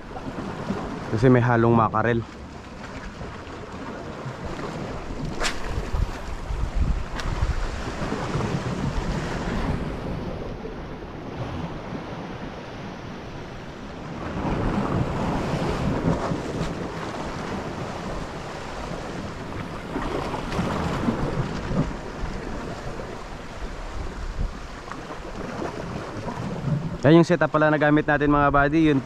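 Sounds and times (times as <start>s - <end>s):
surf washing against rocks: 0.0s - 29.0s
wind buffeting microphone: 0.0s - 29.0s.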